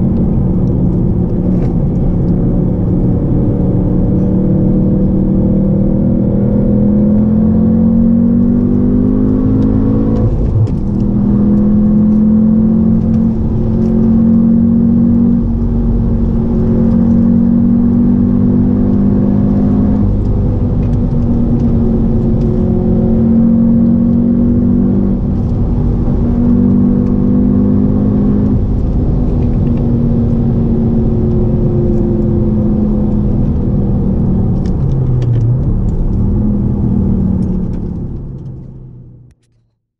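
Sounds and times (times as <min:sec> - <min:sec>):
car engine running: 0:00.0 - 0:39.3.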